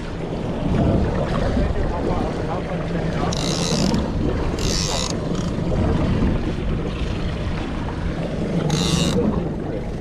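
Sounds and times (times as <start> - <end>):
boat engine rumbling: 0.0 - 10.0
wind on microphone: 0.0 - 10.0.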